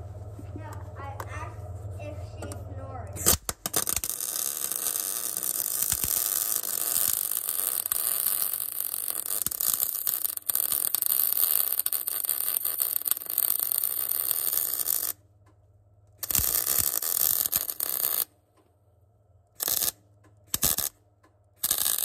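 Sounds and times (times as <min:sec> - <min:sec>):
welder arc crackling and hissing: 0:00.0 - 0:15.2, 0:16.2 - 0:18.3, 0:19.6 - 0:21.0, 0:21.6 - 0:22.0.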